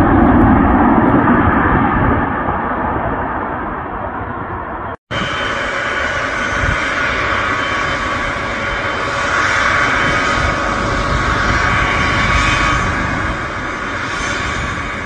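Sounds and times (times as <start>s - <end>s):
jet engines running with whine: 0.0s - 15.0s.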